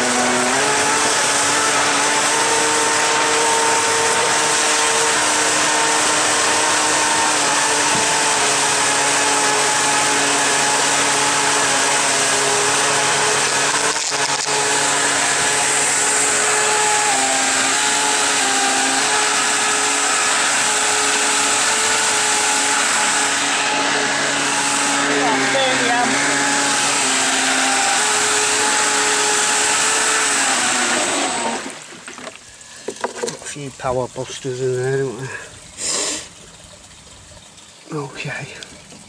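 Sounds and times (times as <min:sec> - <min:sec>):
electric motor whine: 0:00.0 - 0:32.0
water churning and frothing: 0:00.0 - 0:39.0.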